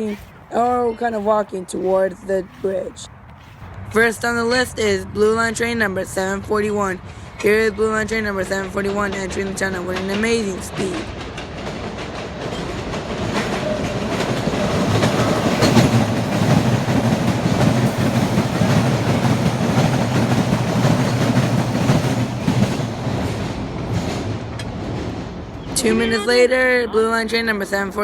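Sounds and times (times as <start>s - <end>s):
subway train passing: 0.0s - 28.0s.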